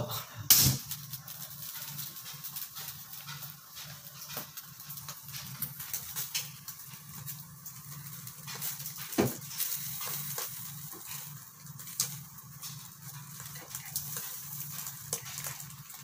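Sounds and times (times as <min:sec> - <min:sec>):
gas burner hiss and hum: 0:00.0 - 0:16.0
leaves crackling over flame: 0:00.0 - 0:16.0.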